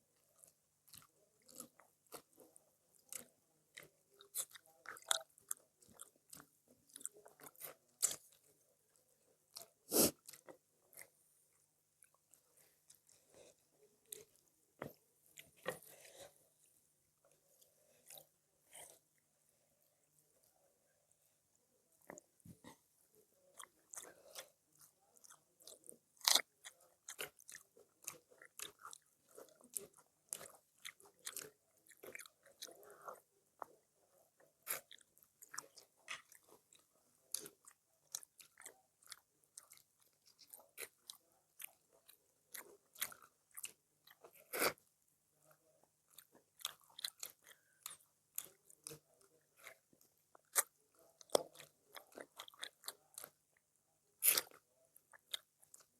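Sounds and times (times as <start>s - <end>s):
chewing with crisp crunches: 0.0s - 55.9s.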